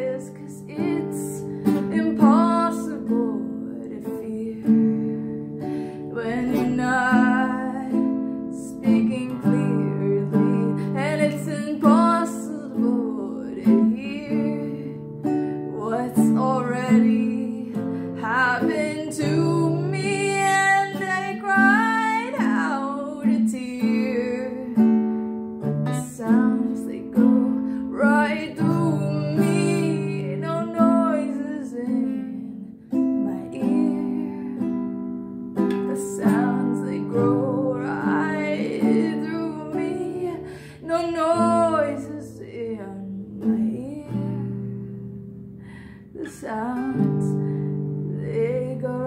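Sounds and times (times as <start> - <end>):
woman singing: 0.0 - 35.0, 35.6 - 44.9, 46.0 - 49.0
acoustic guitar strumming: 0.0 - 49.0.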